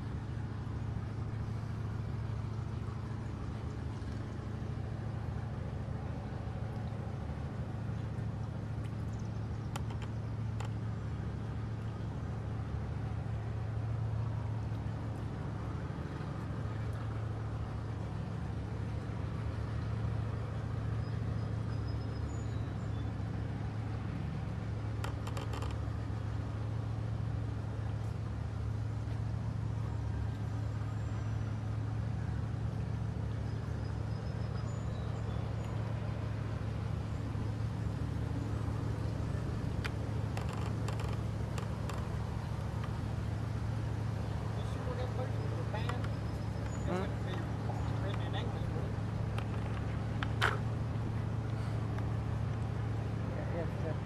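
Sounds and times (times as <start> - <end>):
ship engine drone: 0.0 - 54.0.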